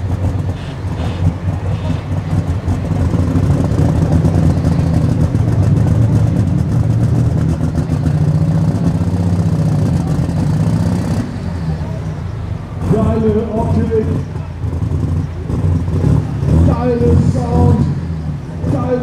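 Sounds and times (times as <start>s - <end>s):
tractor engine running loud: 0.0s - 19.0s.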